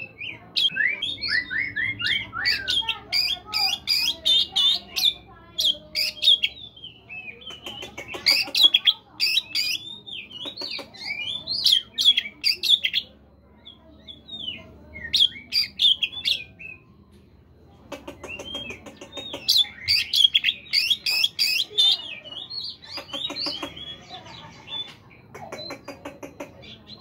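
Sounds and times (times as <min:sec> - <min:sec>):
songbird whistling and chattering: 0:00.0 - 0:17.0, 0:17.8 - 0:27.0.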